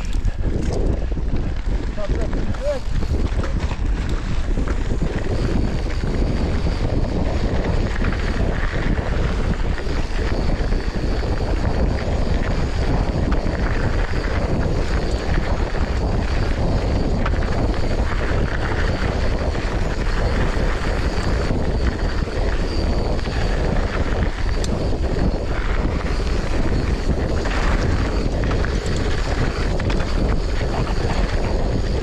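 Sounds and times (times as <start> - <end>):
bike tyre noise on dirt: 0.0 - 32.0
wind rushing over microphone: 0.0 - 32.0.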